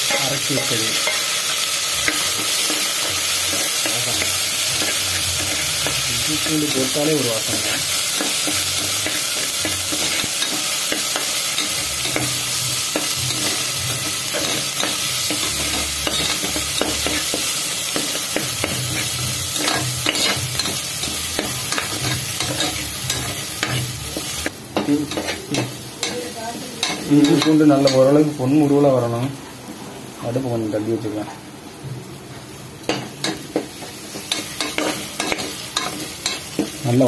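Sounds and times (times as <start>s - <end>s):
paste sizzling in hot oil: 0.0s - 29.4s, 32.9s - 37.0s.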